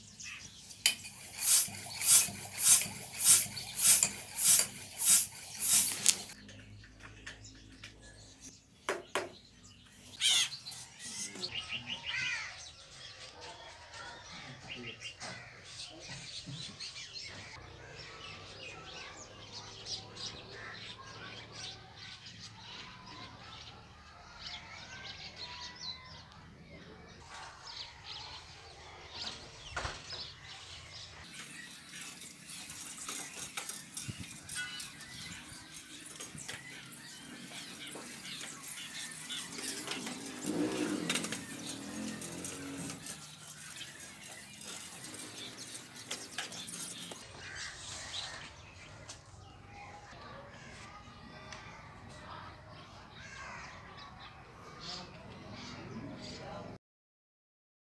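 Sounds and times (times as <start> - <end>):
small birds chirping: 0.0 - 56.8.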